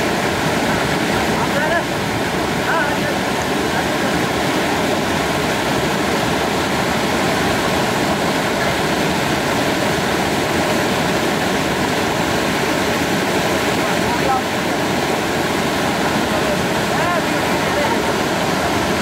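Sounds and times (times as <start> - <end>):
waterfall rushing over rock: 0.0 - 19.0.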